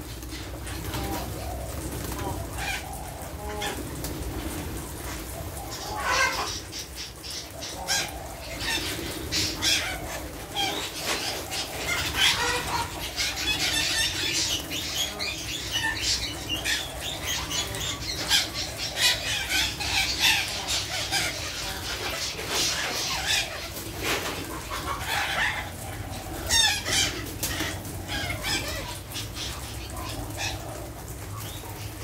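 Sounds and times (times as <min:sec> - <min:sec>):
parakeets chattering: 0:05.0 - 0:32.0.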